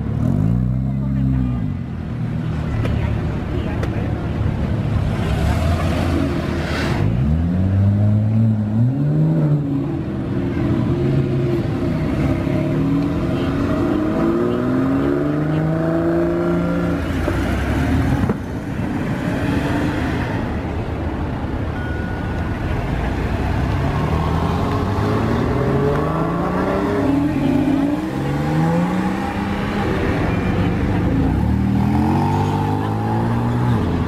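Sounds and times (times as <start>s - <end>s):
car engines accelerating hard: 0.0s - 21.6s, 22.5s - 34.0s.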